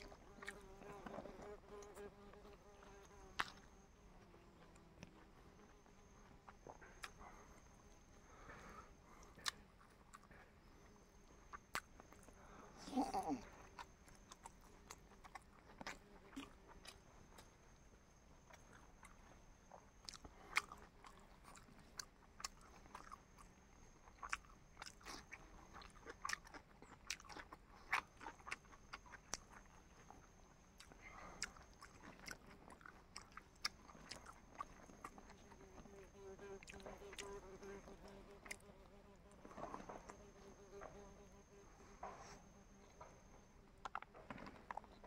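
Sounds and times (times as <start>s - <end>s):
person chewing food: 0.0s - 12.4s, 13.2s - 37.4s, 38.0s - 38.7s, 43.8s - 45.0s.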